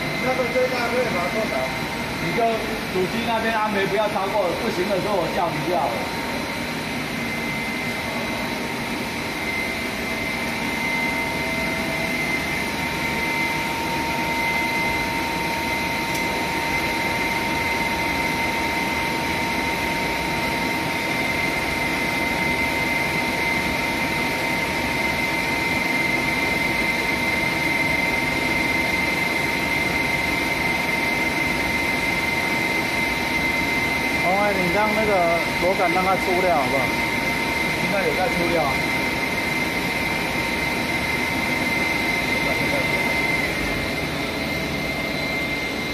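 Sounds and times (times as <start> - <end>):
extruder machine drone: 0.0 - 45.9
high-pitched machine whine: 0.0 - 45.9.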